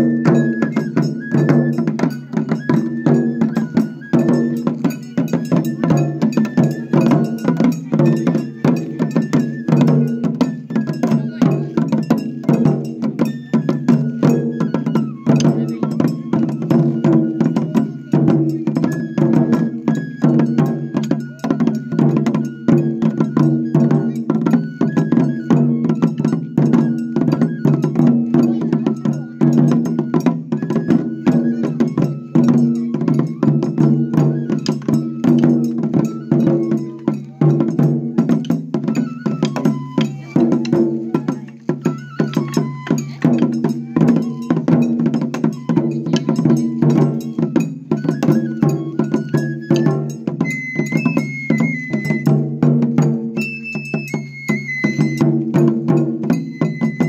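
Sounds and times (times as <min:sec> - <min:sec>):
rapid drumming: 0:00.0 - 0:57.0.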